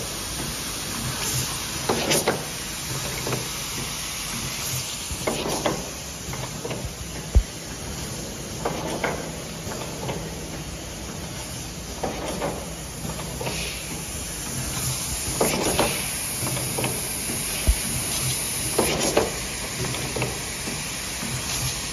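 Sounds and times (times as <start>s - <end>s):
air hiss and mechanical bursts: 0.0s - 21.9s
printing machine hiss and hum: 0.0s - 21.9s.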